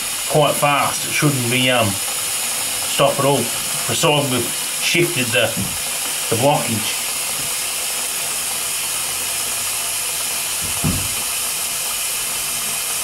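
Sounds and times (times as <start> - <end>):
tap water running into basin: 0.0 - 13.0.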